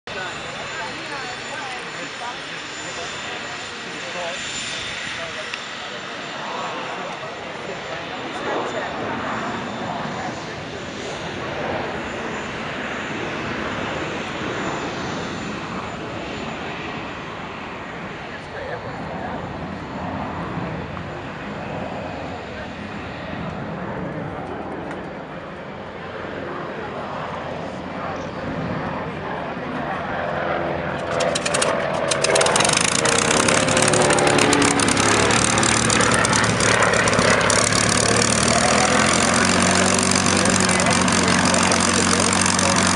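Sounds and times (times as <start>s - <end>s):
aircraft engines drone: 0.0s - 42.9s
propeller plane flyby: 0.1s - 42.9s.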